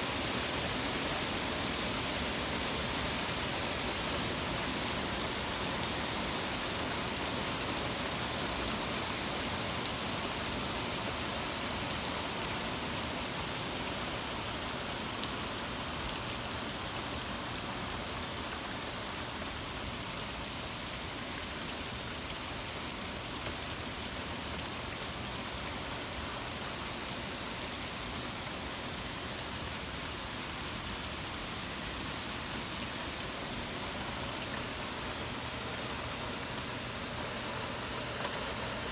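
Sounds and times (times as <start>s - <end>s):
torrential rain: 0.0s - 38.9s.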